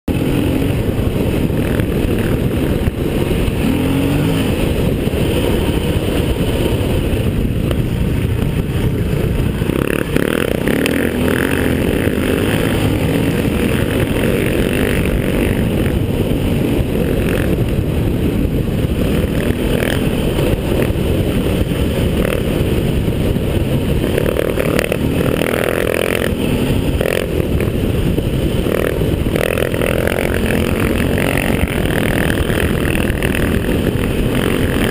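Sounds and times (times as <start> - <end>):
motorcycle engine revving: 0.0 - 34.9
wind rush on microphone: 0.1 - 34.9.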